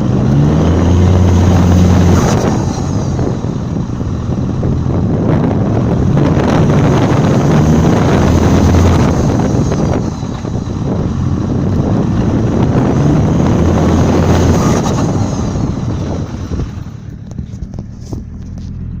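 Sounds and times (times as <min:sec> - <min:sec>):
diesel engine pulling hard: 0:00.0 - 0:19.0
wind noise on microphone: 0:00.0 - 0:19.0.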